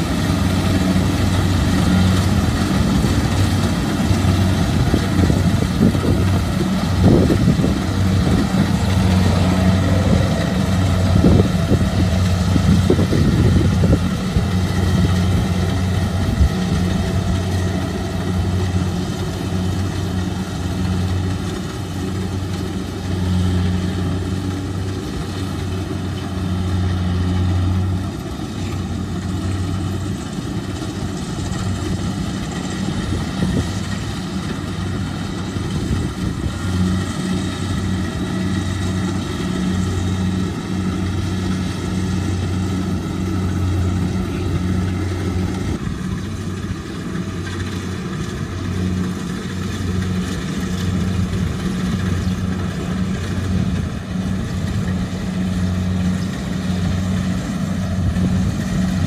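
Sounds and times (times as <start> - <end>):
combine harvester machinery hum: 0.0 - 59.0.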